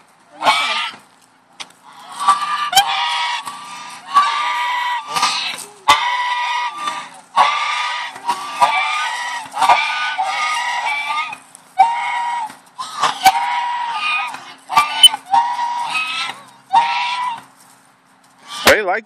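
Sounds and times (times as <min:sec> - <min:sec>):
geese honking: 0:00.0 - 0:01.0, 0:01.8 - 0:17.6, 0:18.3 - 0:19.0.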